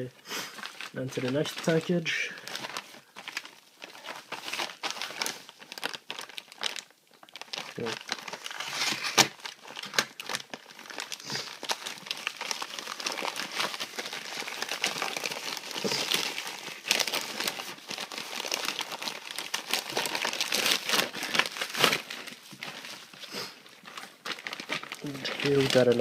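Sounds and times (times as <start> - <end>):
wrapping crinkling and tearing: 0.0 - 26.0.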